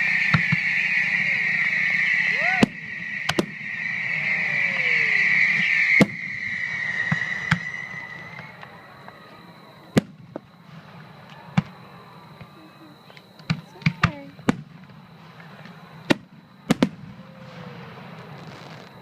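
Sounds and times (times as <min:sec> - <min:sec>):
firework bangs: 0:00.0 - 0:19.0
firework hissing: 0:00.0 - 0:19.0.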